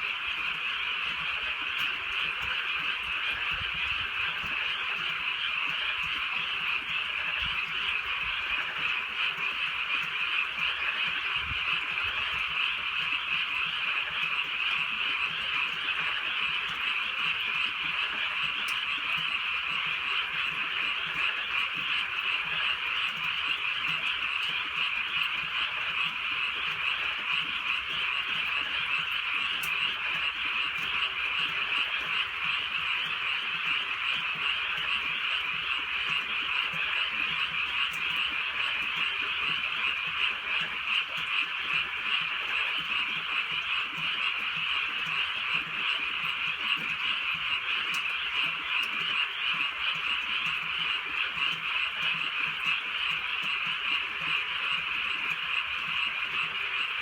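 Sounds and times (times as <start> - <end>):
frogs croaking in chorus: 0.0 - 57.0.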